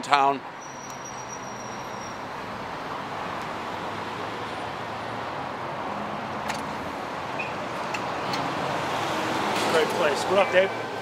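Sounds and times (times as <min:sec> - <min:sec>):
passing vehicles rushing: 0:00.0 - 0:11.0.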